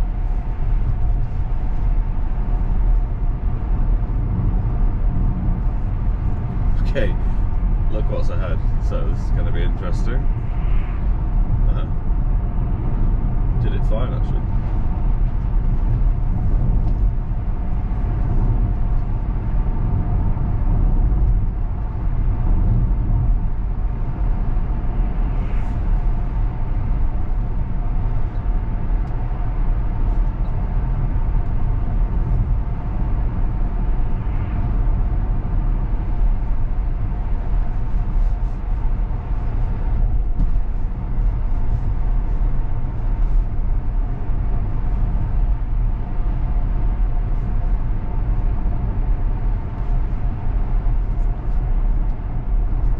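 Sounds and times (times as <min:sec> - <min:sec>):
faint steady hum: 0:00.0 - 0:52.9
road and tyre rumble: 0:00.0 - 0:52.9.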